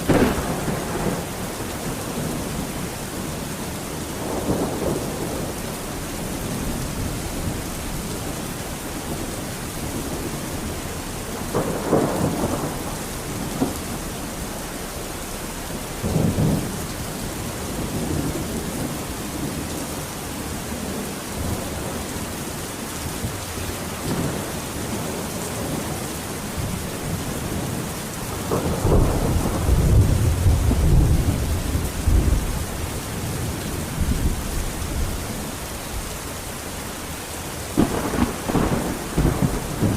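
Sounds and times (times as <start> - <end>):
thunder rumbling: 0.0 - 36.4, 37.1 - 39.9
steady rain: 0.0 - 39.9.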